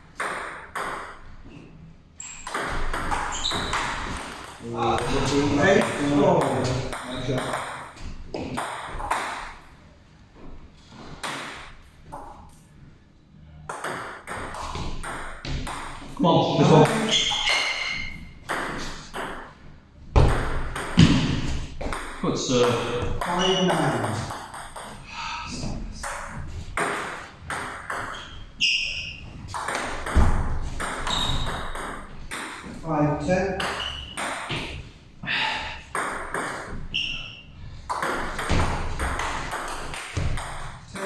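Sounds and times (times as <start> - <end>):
table tennis ball hits: 0.2 - 1.3, 2.3 - 9.8, 11.2 - 12.6, 13.7 - 19.6, 20.2 - 25.1, 26.0 - 32.8, 33.5 - 34.9, 35.9 - 41.0.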